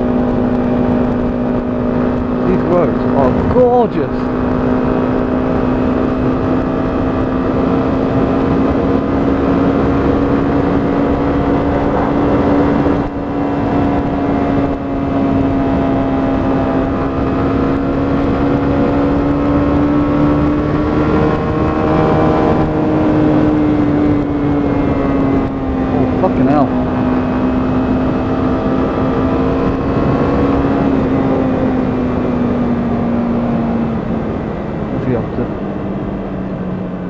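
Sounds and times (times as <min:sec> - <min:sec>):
motorcycle engine running: 0:00.0 - 0:37.0
wind noise: 0:00.0 - 0:37.0.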